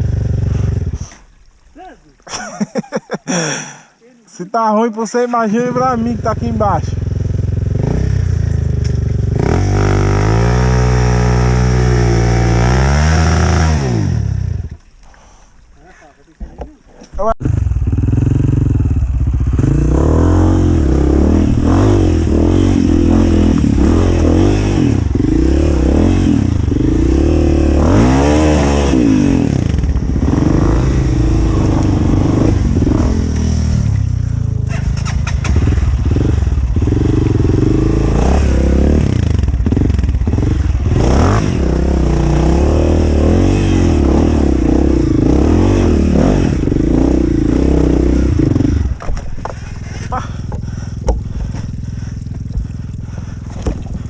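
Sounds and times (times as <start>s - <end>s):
dirt bike engine revving: 5.6s - 14.7s, 17.4s - 53.4s.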